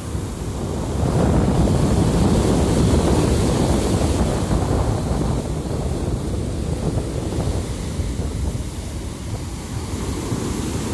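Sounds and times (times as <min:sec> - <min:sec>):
sea waves breaking: 0:00.0 - 0:10.9
wind buffeting microphone: 0:00.0 - 0:10.9.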